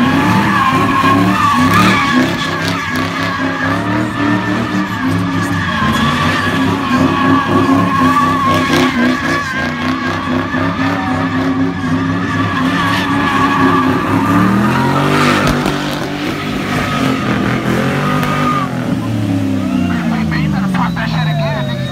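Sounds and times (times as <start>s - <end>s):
car engine revving: 0.0s - 21.9s
tyres squealing: 0.0s - 21.9s.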